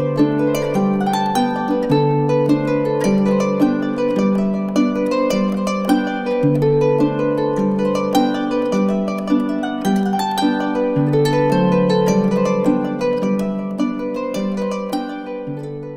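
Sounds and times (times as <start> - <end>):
plucked harp-like notes: 0.0 - 15.9.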